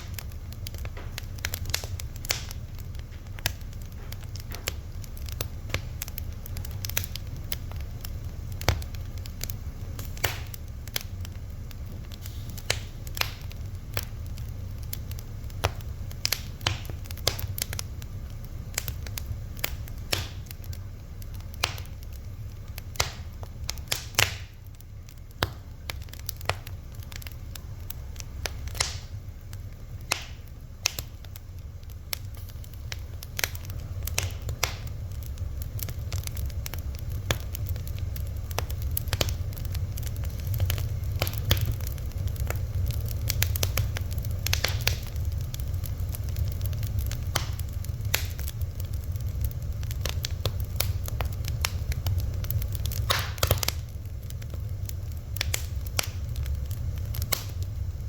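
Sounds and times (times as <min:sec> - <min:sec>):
fire crackling and popping: 0:00.0 - 0:58.0
steady low rumble: 0:00.0 - 0:58.0.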